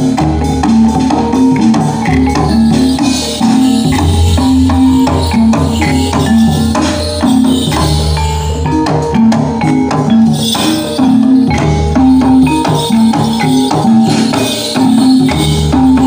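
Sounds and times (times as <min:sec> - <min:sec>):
drums: 0:00.0 - 0:16.0
metallophones ringing: 0:00.0 - 0:16.0.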